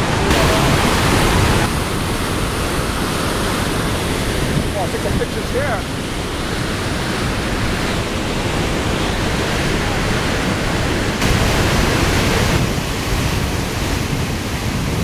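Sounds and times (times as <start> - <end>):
river rapids roaring: 0.0 - 15.0.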